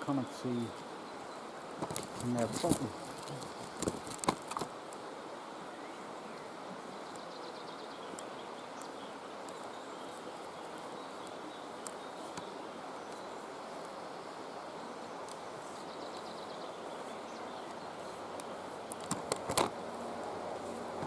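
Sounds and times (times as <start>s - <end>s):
woodland background: 0.0s - 21.0s.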